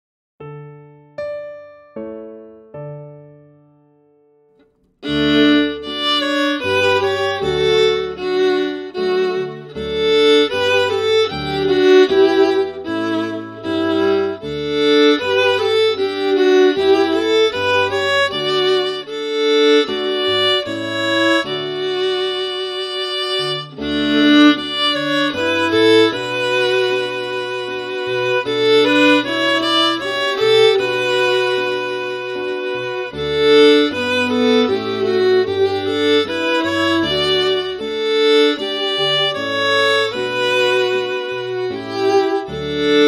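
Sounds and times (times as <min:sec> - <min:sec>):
fiddle playing lively tune: 0:05.0 - 0:43.0.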